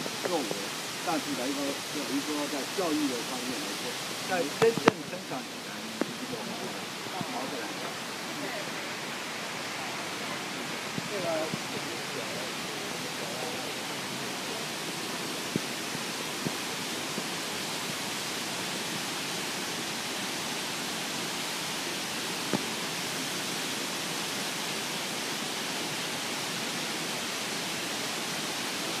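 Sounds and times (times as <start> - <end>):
rushing water hiss: 0.0 - 29.0.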